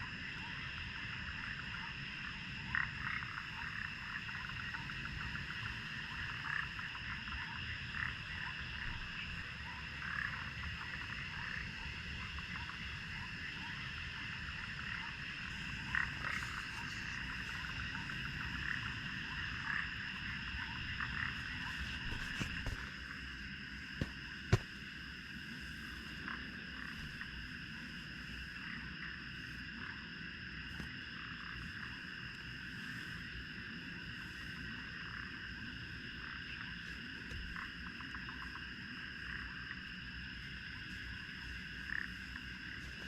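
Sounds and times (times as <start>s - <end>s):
frogs calling: 0.0s - 43.0s.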